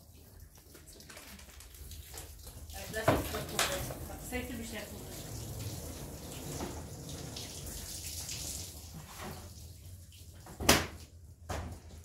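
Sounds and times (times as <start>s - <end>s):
running water splashing: 0.0s - 10.4s.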